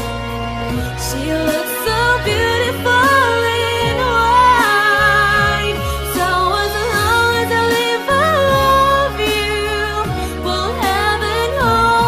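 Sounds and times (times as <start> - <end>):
sliding melody: 0.0 - 11.5
bass line: 0.0 - 12.0.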